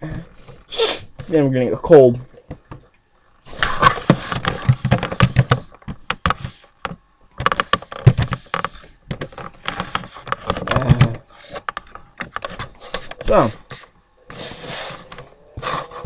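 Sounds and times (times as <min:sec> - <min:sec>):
rustling handling noise: 0:00.3 - 0:16.0.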